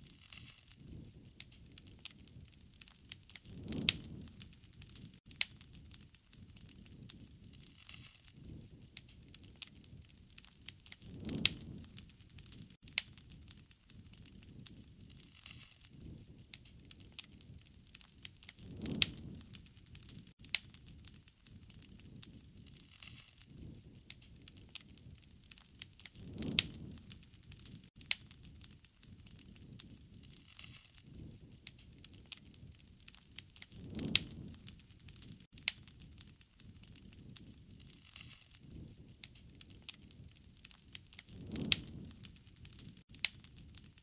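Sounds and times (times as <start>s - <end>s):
bonfire crackling and popping: 0.0s - 44.0s.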